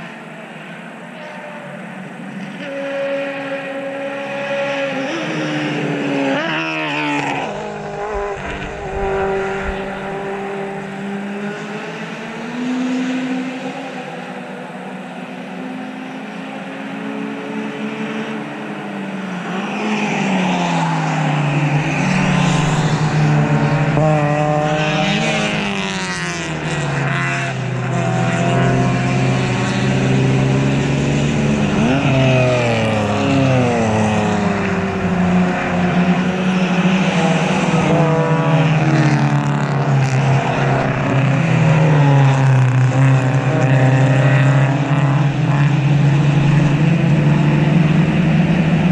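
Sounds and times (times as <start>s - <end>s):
race cars passing: 0.0s - 48.9s.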